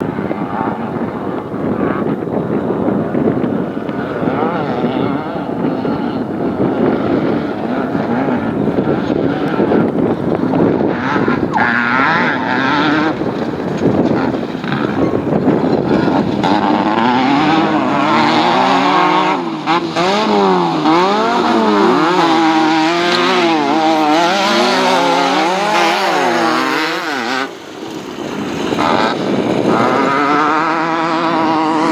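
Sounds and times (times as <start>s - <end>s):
race car engine revving: 0.0s - 31.9s.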